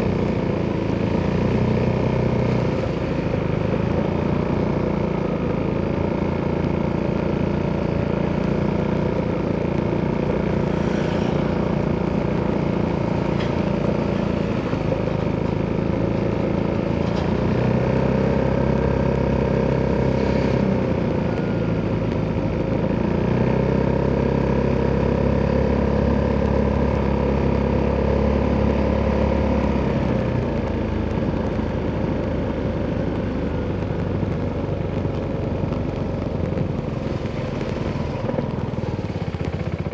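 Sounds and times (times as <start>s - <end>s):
motorcycle engine exhaust: 0.0s - 16.9s, 17.7s - 39.9s.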